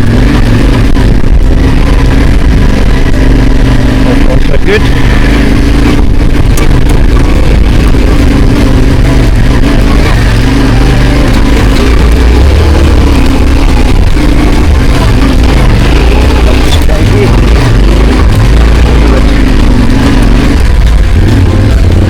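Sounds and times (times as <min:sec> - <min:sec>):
motorcycle engine running at low speed: 0:00.0 - 0:22.0.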